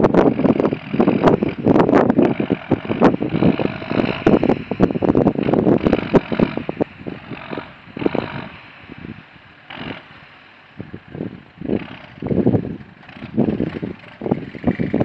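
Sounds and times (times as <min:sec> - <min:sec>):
old tractor engine popping: 0:00.0 - 0:15.0.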